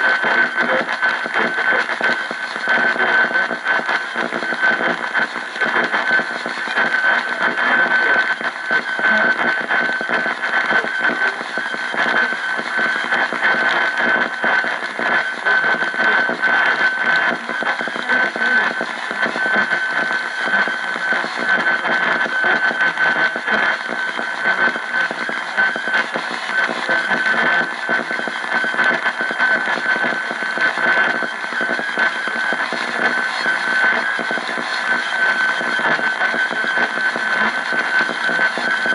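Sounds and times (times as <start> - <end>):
radio static crackling: 0.0 - 38.9.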